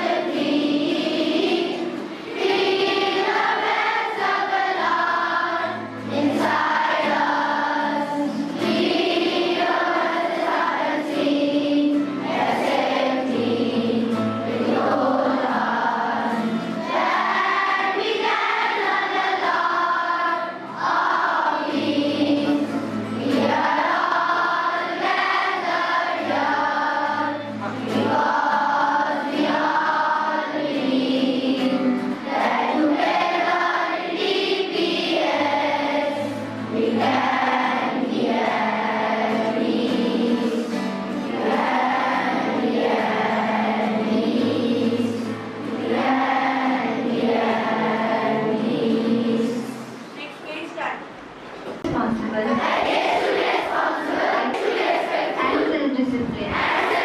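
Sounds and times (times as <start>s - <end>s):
children singing in chorus: 0.0s - 50.1s, 52.5s - 55.8s, 56.5s - 57.0s.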